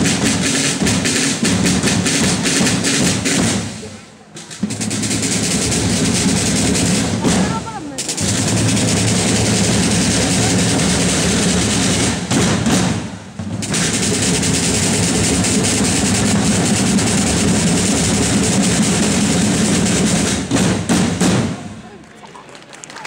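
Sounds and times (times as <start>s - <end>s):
snare drums drumming fast: 0.0s - 21.8s.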